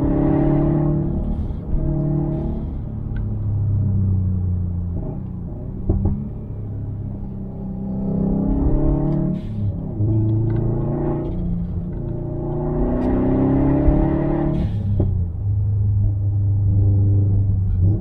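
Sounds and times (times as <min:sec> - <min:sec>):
turbocharged car engine under load: 0:00.0 - 0:18.0.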